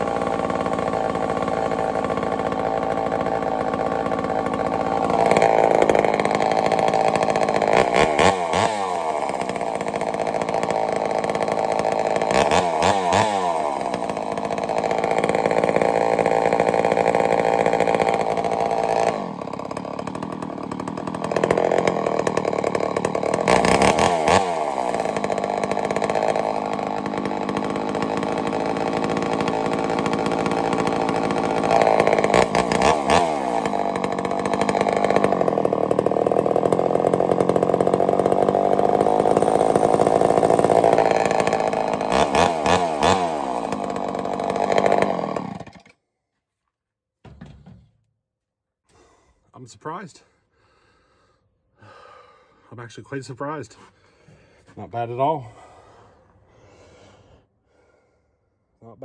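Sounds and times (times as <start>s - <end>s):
chainsaw running and revving: 0.0s - 46.0s, 53.0s - 56.0s.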